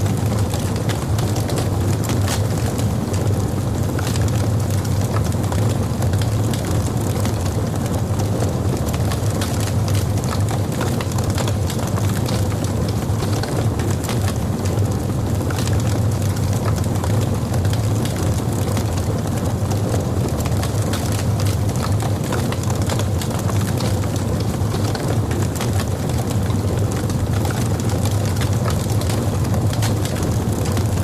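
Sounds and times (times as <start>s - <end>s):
fire rumbling in fireplace: 0.0s - 31.0s
wood crackles and pops: 0.0s - 31.0s.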